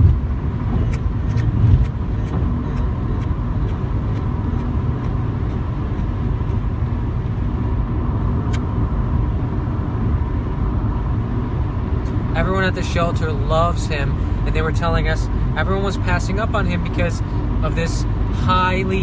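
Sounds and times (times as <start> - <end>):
motor vehicle rumble: 0.0 - 19.0.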